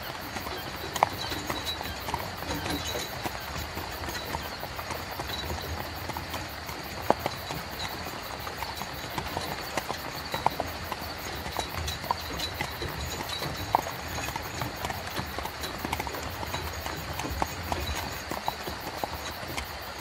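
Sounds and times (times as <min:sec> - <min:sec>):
horse hooves clip-clopping: 0:00.0 - 0:20.0
rolling cart wheels rumble: 0:00.0 - 0:20.0.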